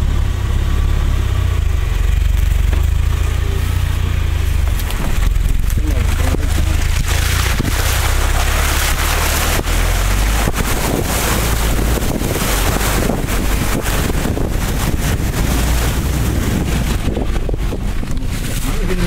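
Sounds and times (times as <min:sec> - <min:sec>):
low engine rumble: 0:00.0 - 0:19.0
water splashing against car: 0:00.0 - 0:19.0
wind buffeting microphone: 0:00.4 - 0:19.0.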